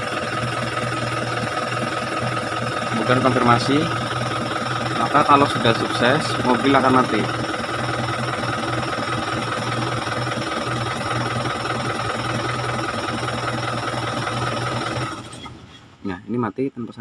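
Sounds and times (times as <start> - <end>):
car engine idling: 0.0 - 15.3.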